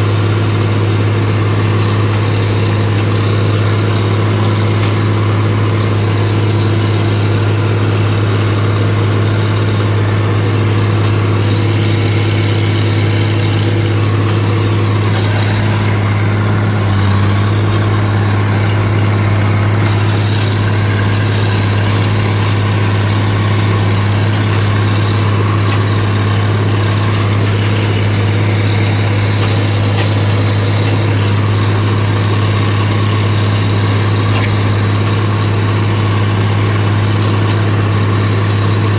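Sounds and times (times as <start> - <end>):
tractor diesel engine droning: 0.0 - 38.9.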